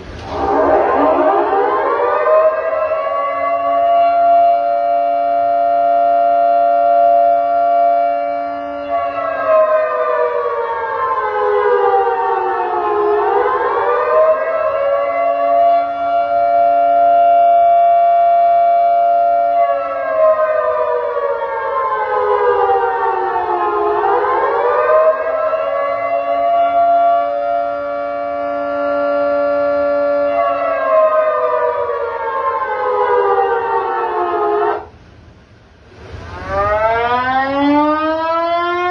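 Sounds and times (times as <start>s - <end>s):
electronic siren sweeping: 0.0s - 34.9s, 35.9s - 38.9s.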